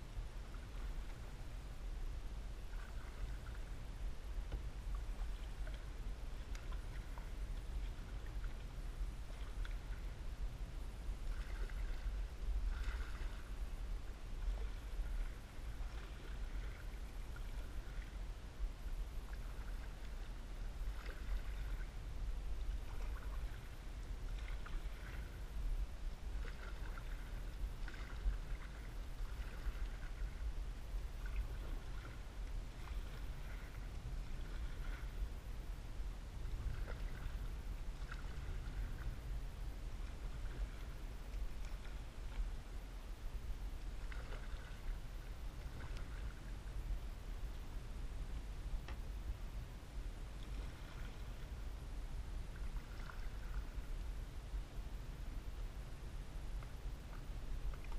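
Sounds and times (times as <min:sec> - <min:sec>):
paddle swishes and water drips: 0:00.0 - 0:57.9.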